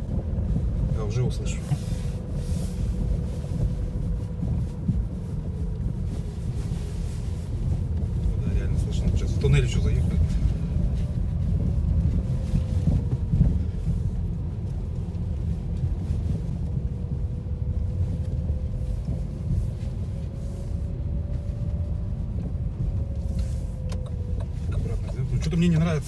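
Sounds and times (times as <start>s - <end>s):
road and tyre rumble in car: 0.0s - 26.0s.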